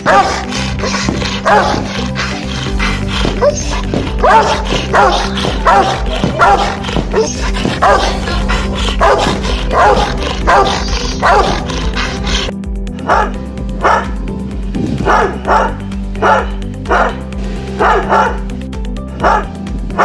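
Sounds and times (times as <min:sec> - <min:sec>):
dog barking: 0:00.0 - 0:14.2, 0:15.0 - 0:17.2, 0:17.8 - 0:18.5, 0:19.1 - 0:20.0
background music: 0:00.0 - 0:20.0.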